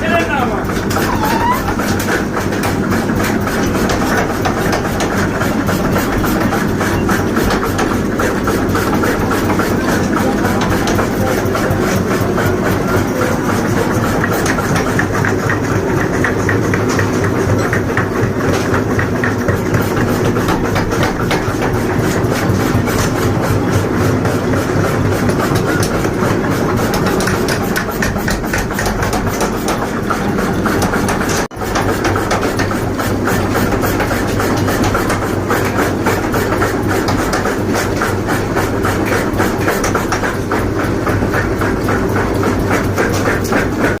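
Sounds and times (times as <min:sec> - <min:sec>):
forging machine rattling clatter: 0:00.0 - 0:44.0
forging machine hum: 0:00.3 - 0:44.0.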